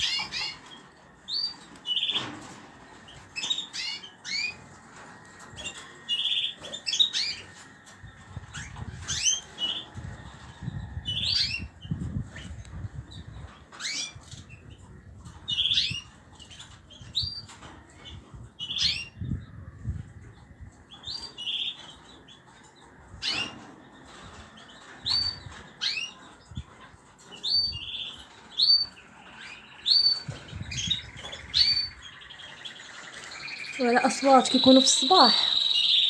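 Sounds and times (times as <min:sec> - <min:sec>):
cage birds chirping: 0:00.0 - 0:36.0.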